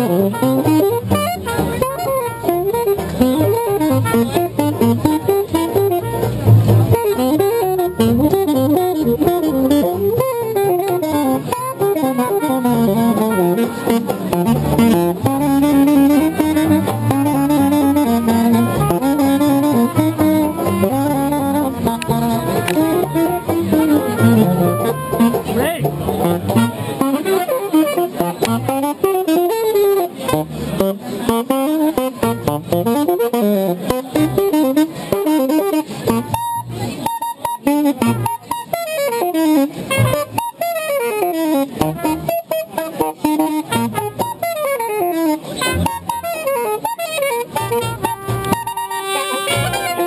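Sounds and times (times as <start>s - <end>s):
jazzy acoustic band music: 0.0s - 50.0s.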